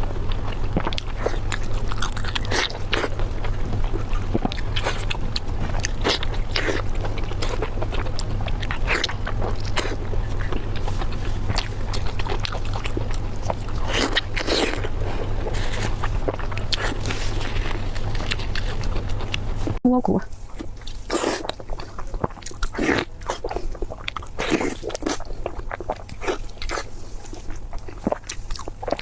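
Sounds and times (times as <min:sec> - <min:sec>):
person biting and chewing: 0:00.0 - 0:19.8, 0:20.4 - 0:29.0
steady low hum: 0:00.0 - 0:29.0.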